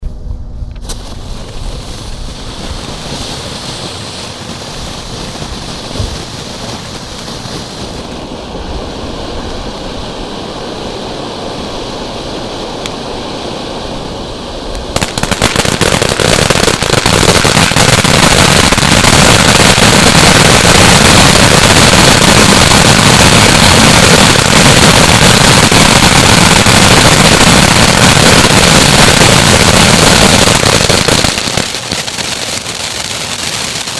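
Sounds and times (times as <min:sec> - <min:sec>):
firework fountain hissing: 0:00.8 - 0:33.9.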